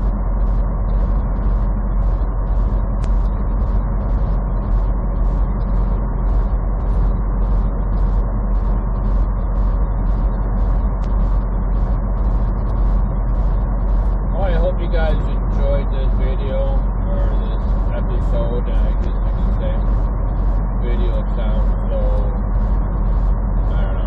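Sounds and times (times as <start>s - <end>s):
faint regular ticking: 0.0s - 24.0s
road noise inside cab: 0.0s - 24.0s
truck engine drone: 0.0s - 24.0s.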